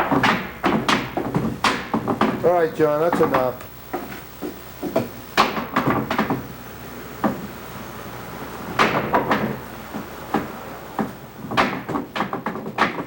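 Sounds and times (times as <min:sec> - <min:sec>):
sharp knocks and thumps: 0:00.0 - 0:06.5, 0:07.2 - 0:07.6, 0:08.7 - 0:13.0.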